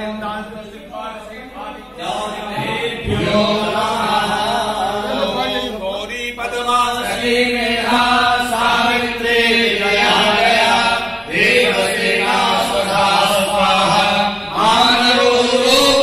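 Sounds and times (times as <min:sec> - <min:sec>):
voices chanting a mantra: 0:00.0 - 0:16.0.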